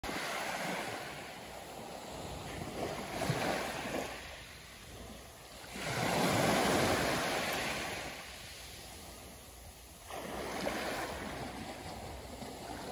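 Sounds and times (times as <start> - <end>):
small waves washing on beach: 0.0 - 12.9.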